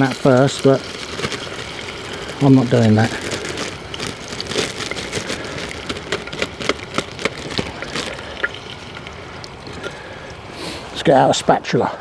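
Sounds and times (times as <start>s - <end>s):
chicken sizzling in hot oil: 0.0s - 10.9s.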